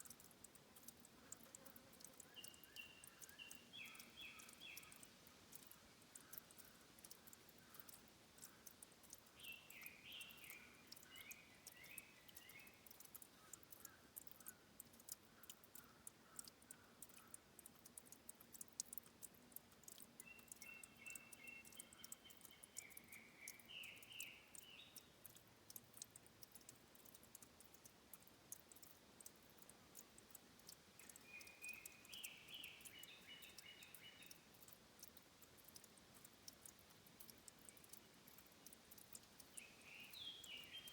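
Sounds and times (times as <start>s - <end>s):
songbird singing: 0.0s - 40.9s
water dripping and trickling: 0.0s - 40.9s.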